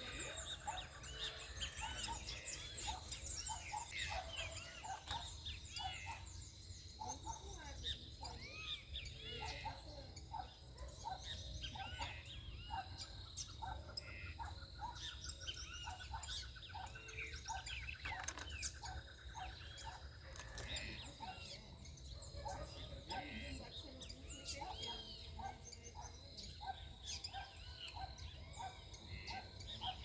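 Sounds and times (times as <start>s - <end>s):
birds calling and chirping: 0.0s - 30.0s.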